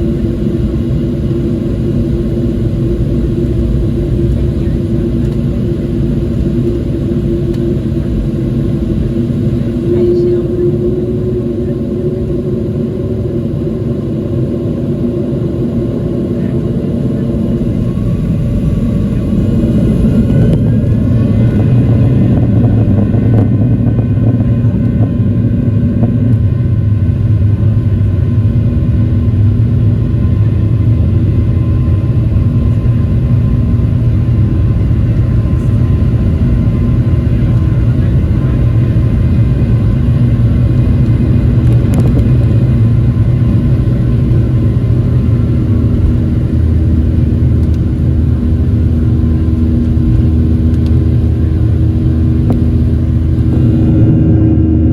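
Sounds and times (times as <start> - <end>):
jet engines and airframe rumbling: 0.0 - 54.9.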